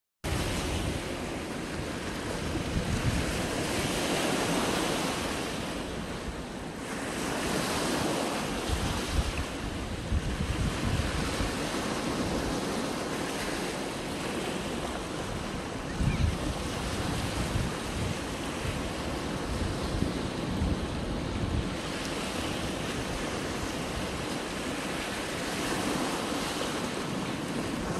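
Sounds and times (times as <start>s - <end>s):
wind buffeting microphone: 0.2s - 6.5s, 7.2s - 27.9s
waves washing up a beach: 0.3s - 27.9s.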